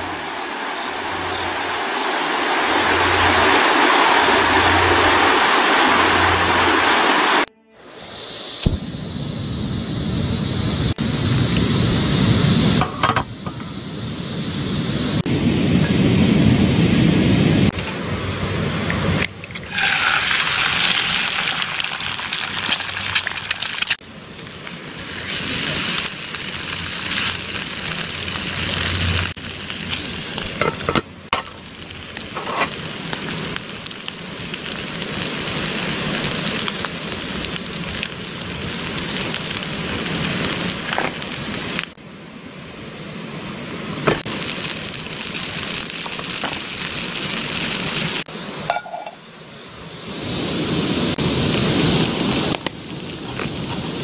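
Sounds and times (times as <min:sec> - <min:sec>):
crackling sizzling hiss: 0:00.0 - 0:54.0.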